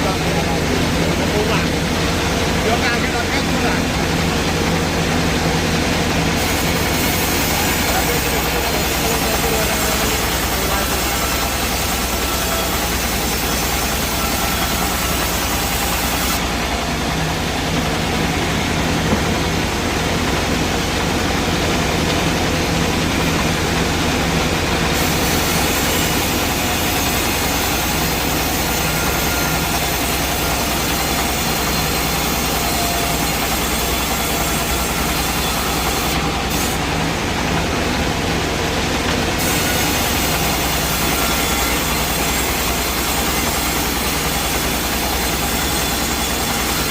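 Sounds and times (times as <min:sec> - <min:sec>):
heavy engine drone: 0:00.0 - 0:46.9
sawmill mechanical noise: 0:00.0 - 0:46.9.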